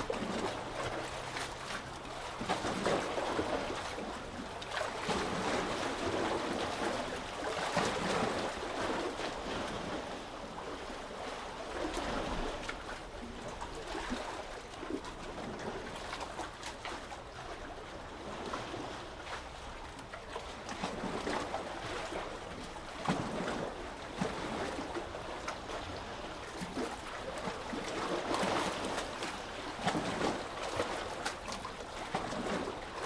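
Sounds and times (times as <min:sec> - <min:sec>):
sea waves lapping: 0:00.0 - 0:33.0.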